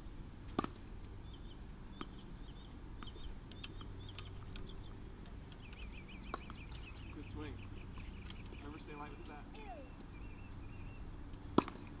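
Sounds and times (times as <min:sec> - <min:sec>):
bird chirping: 0:01.2 - 0:11.2.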